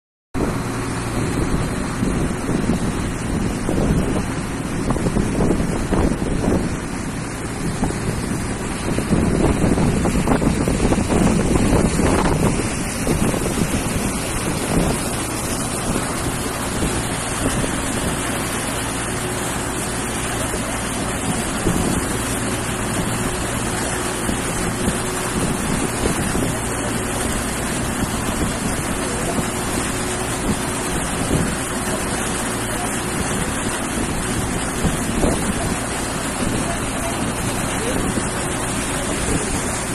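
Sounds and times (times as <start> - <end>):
motorboat engine running: 0.4 - 39.9
water rushing from hull: 0.4 - 39.9
wind buffeting microphone: 0.4 - 39.9.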